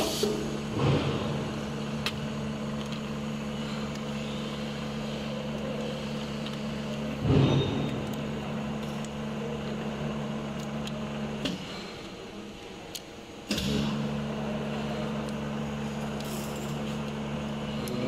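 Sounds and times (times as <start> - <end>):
machine motor hum: 0.0 - 18.0.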